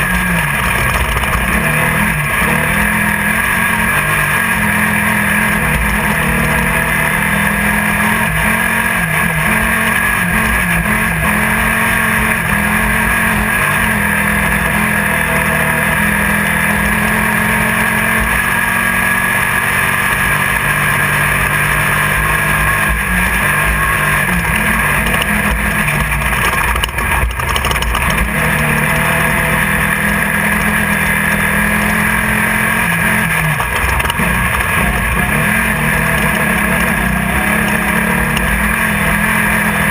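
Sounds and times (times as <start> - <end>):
race car engine revving: 0.0 - 39.9
wind and chassis noise: 0.0 - 39.9.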